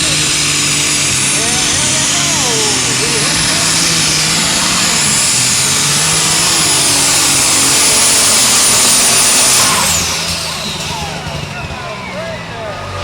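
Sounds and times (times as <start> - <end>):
tractor engine running flat out: 0.0 - 13.0
turbo whine: 0.0 - 13.0.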